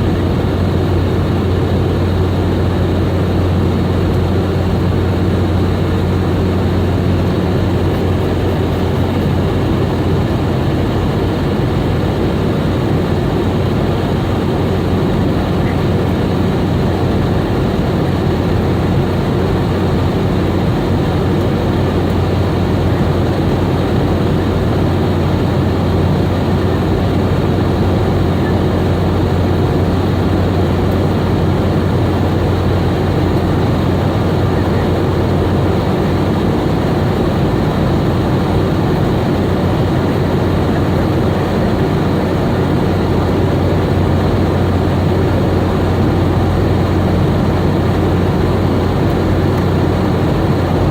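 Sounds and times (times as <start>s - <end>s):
airplane cabin engine drone: 0.0s - 50.9s.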